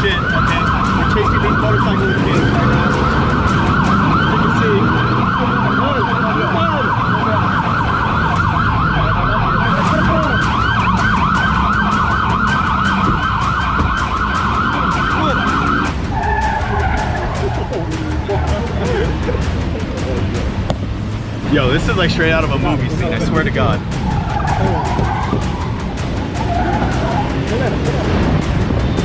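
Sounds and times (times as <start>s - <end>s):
police siren yelping: 0.0s - 20.6s, 21.9s - 27.4s
car rumbling: 0.0s - 29.0s.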